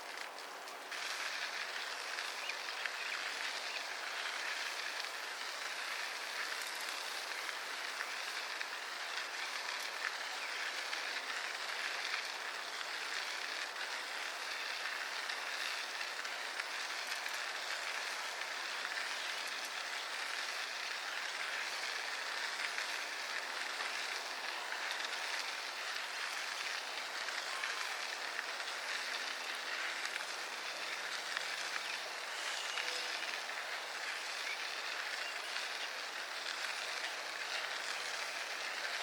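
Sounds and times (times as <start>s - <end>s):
bicycle tyres rolling on path: 0.0s - 39.0s.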